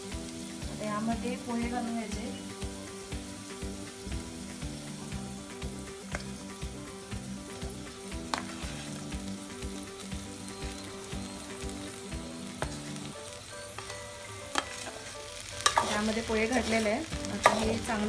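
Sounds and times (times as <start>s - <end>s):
oil sizzling in a pot: 0.0s - 18.0s
soft background music: 0.0s - 18.0s.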